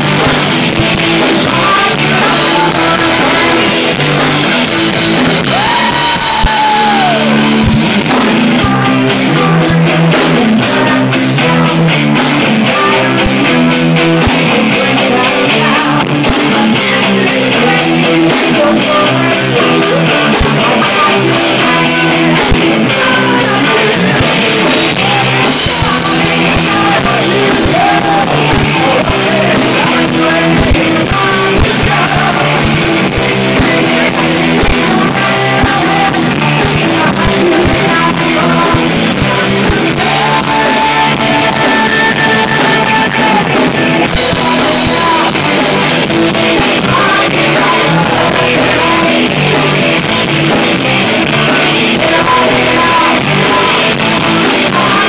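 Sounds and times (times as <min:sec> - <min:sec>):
electric guitar: 0:00.0 - 0:55.0
rock band playing live: 0:00.0 - 0:55.0.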